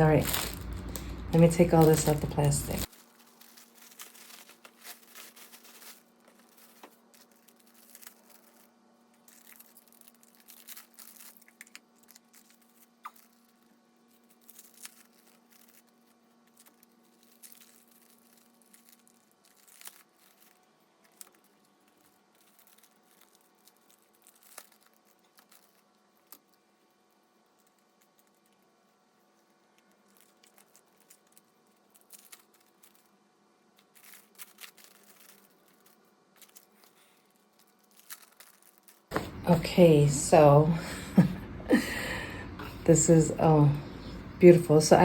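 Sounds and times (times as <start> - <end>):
plastic packaging crinkling: 0.0 - 44.8
faint low hum: 0.0 - 45.0.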